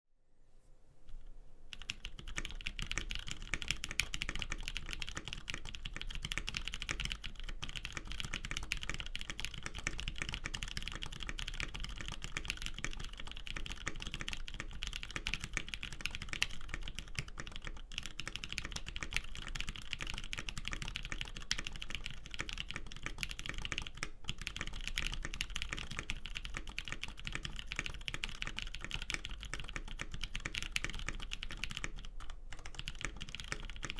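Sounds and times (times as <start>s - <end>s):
mechanical keyboard typing: 1.2s - 33.9s.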